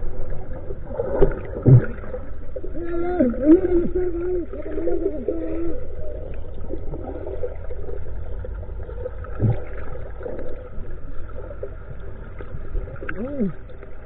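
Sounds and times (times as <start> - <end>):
muffled underwater boat engine: 0.0 - 14.0.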